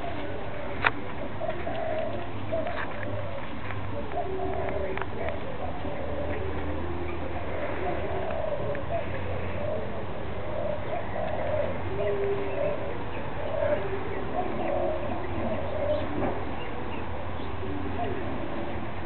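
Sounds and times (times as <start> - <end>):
doves cooing: 0.0 - 19.0
steady low hum: 0.0 - 19.0.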